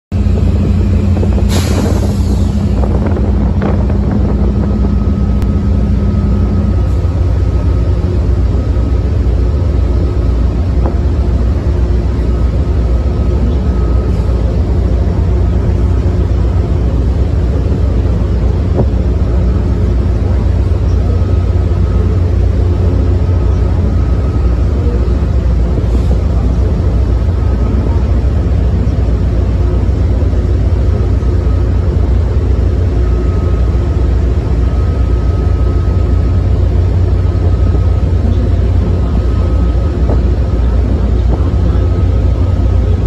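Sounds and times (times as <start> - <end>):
low engine rumble: 0.1 - 43.0
low hum: 0.1 - 43.0.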